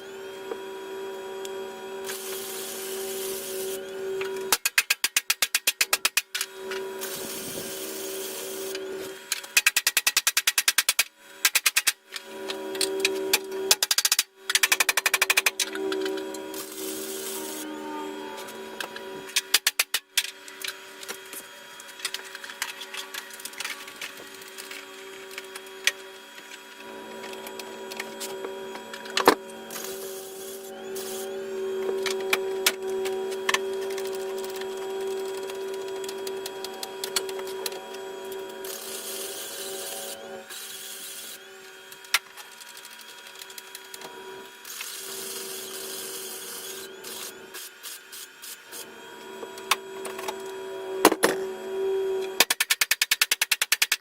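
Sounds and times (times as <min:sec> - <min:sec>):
power tool whining on metal: 0:00.0 - 0:09.9, 0:11.0 - 0:52.5.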